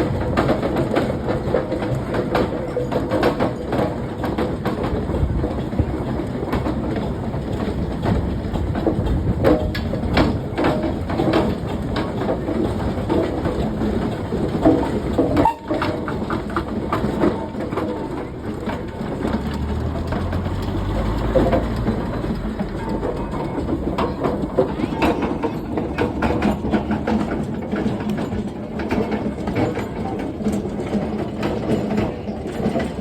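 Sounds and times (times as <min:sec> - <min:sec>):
steam engine mechanical clatter: 0:00.0 - 0:33.0.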